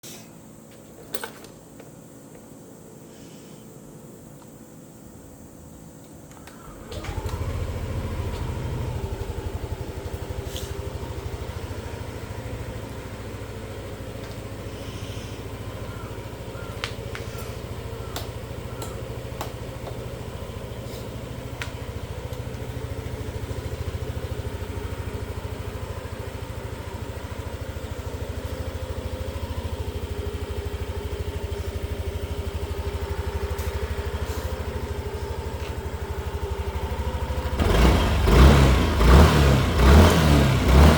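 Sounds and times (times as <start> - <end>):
scooter engine idling: 5.2 - 40.9.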